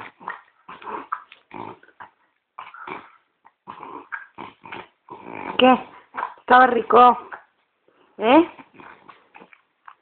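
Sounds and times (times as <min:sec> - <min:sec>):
dog snorting and grunting: 0:00.0 - 0:06.5, 0:08.4 - 0:10.0.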